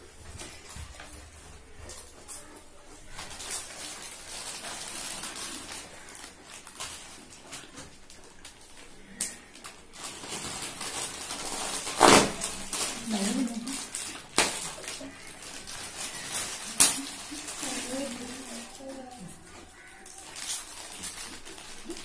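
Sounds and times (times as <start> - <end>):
crisp packets crinkling: 0.0 - 22.0.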